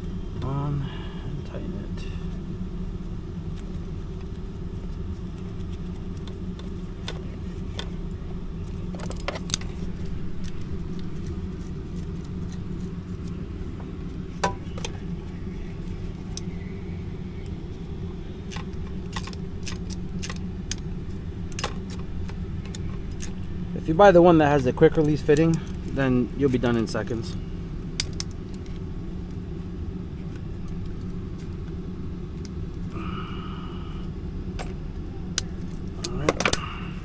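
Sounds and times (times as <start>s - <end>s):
low mechanical rumble: 0.0s - 37.0s.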